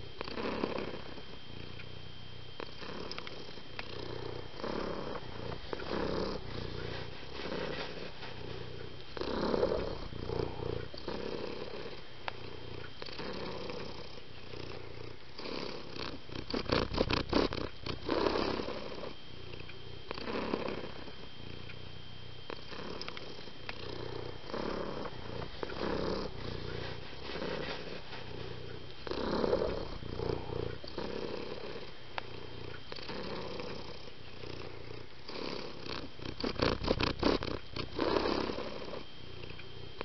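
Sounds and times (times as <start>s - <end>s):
cat purring: 0.0s - 40.0s.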